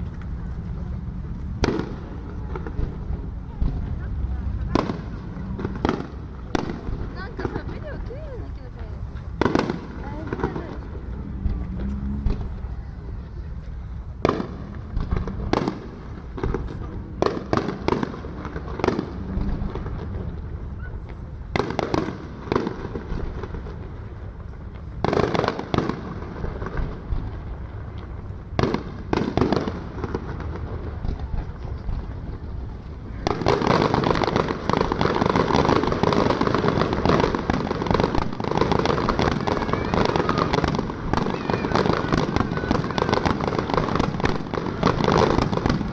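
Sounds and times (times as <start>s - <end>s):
fireworks crackling: 0.0s - 45.9s.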